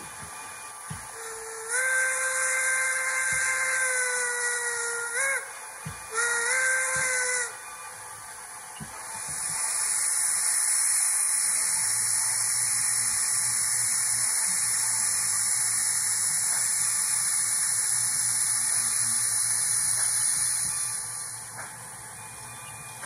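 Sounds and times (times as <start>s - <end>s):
steam hiss through small speaker: 0.0s - 23.0s.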